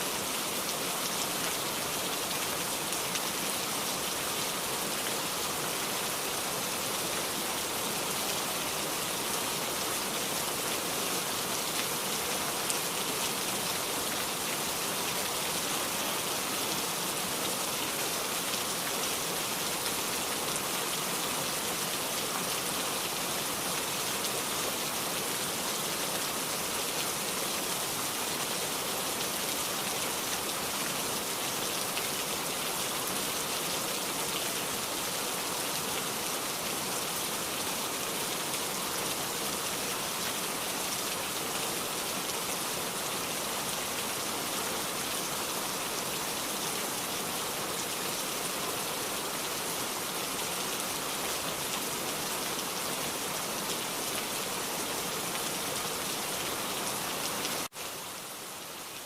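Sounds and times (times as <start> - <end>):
heavy rain downpour: 0.0 - 59.0.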